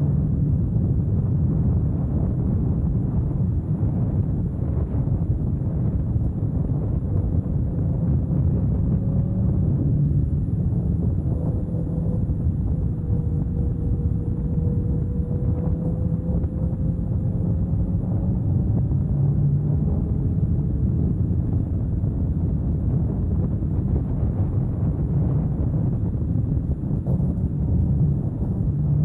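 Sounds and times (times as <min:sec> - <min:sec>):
motorcycle engine hum: 0:00.0 - 0:29.0
wind rushing over microphone: 0:00.0 - 0:29.0.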